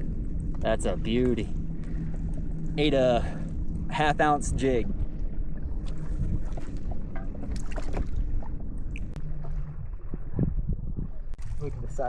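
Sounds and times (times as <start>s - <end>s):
wind and water rumble: 0.0s - 12.0s.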